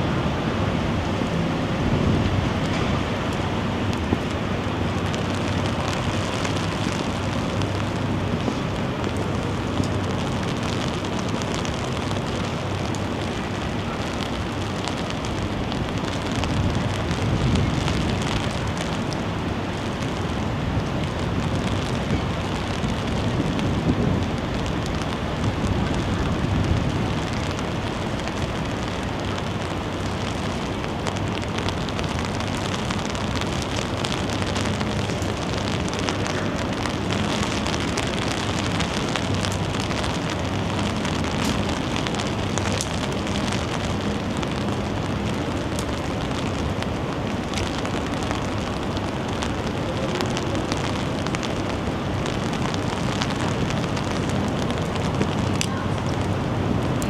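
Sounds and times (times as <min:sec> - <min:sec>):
rain falling: 0:00.0 - 0:57.0
wind gusts: 0:00.0 - 0:57.0.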